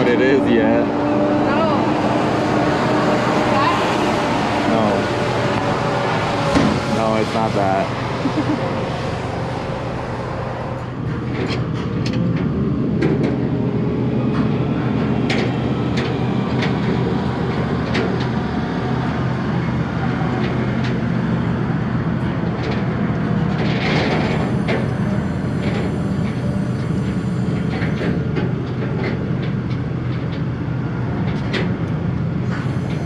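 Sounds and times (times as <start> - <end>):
vehicle engine droning: 0.0 - 33.0.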